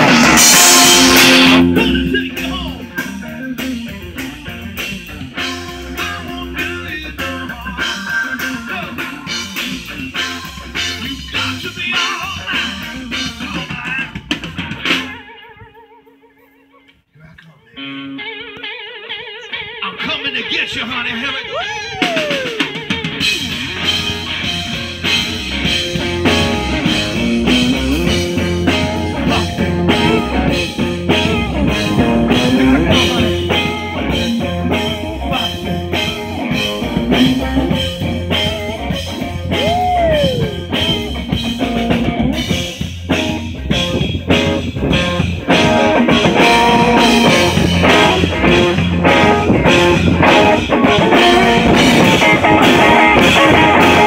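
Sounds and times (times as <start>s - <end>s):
drum kit steady beat: 0.0s - 15.2s, 21.7s - 54.0s
electric guitar: 0.0s - 54.0s.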